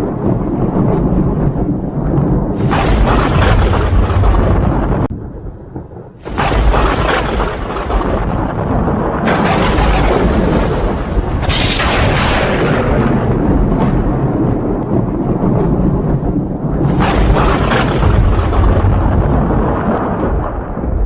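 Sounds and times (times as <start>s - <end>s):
thunder claps: 0.0s - 21.0s
thunder rumbling: 0.0s - 21.0s.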